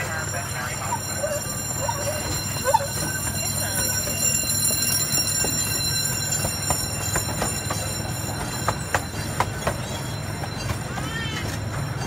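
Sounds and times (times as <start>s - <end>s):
miniature train rumbling: 0.0s - 12.0s
train wheels clacking: 0.0s - 12.0s.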